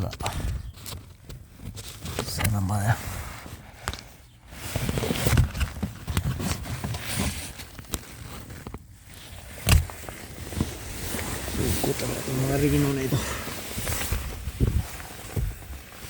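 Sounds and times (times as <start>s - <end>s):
hands rummaging in car trim: 0.0s - 16.0s.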